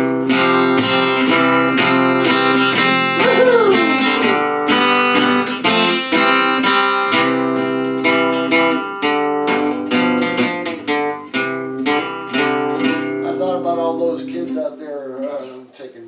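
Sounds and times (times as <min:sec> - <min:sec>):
acoustic guitar strumming: 0:00.0 - 0:15.6.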